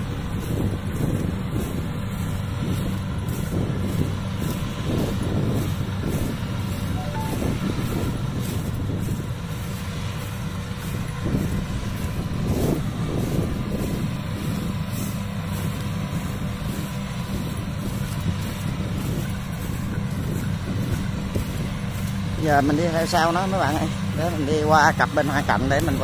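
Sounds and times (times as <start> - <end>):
diesel engine low drone: 0.0 - 26.0.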